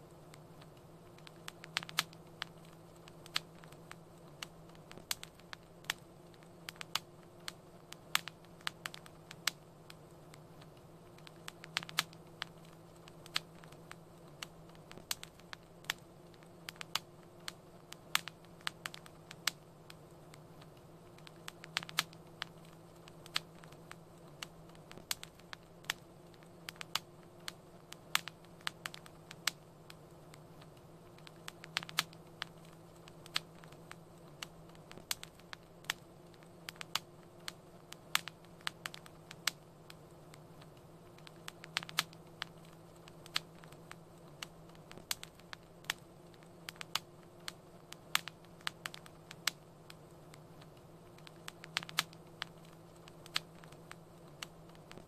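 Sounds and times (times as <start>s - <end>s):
faint hum: 0.0s - 55.0s
wood fire crackling and popping: 0.0s - 55.0s.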